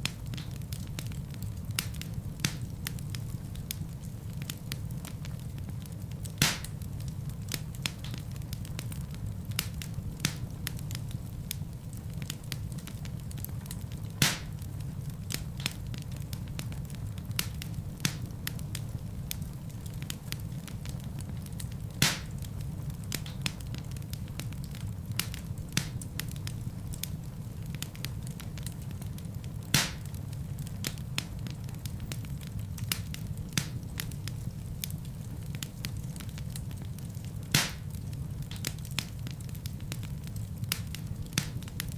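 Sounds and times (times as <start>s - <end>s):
fire sharp pops: 0.0s - 41.9s
wood fire crackling: 0.0s - 41.9s.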